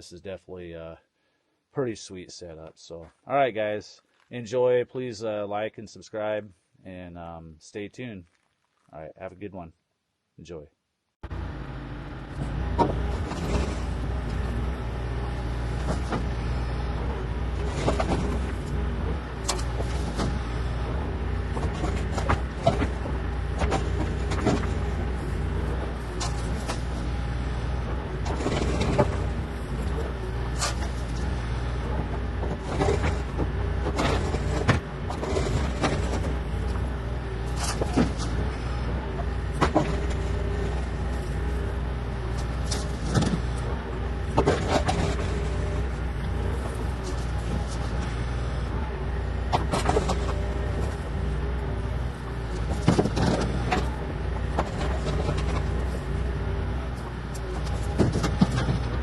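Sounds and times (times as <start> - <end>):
excavator diesel engine running: 11.2 - 59.0.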